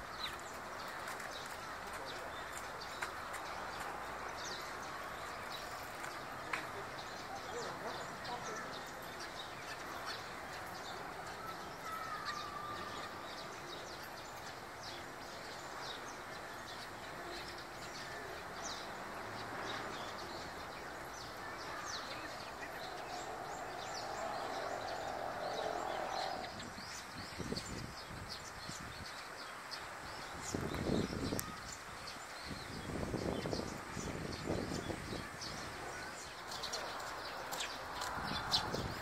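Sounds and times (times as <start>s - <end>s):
sparrows chirping: 0.0s - 39.0s
steady background noise: 0.0s - 39.0s.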